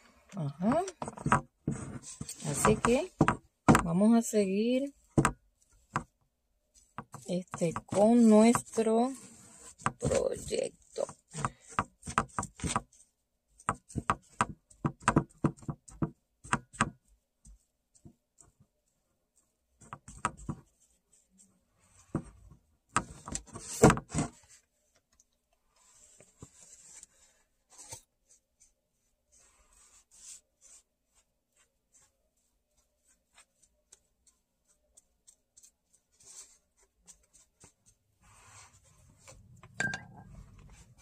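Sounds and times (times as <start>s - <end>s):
paintbrush tapping and brushing: 0.6s - 41.0s.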